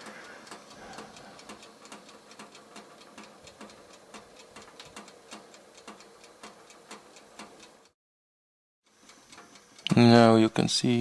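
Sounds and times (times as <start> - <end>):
oven ticking faintly: 0.0 - 8.0, 8.9 - 11.0.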